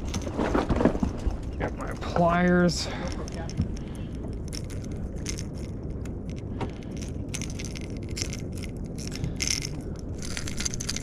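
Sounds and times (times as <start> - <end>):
metal hooks clicking and rattling: 0.0 - 0.6, 1.3 - 11.0.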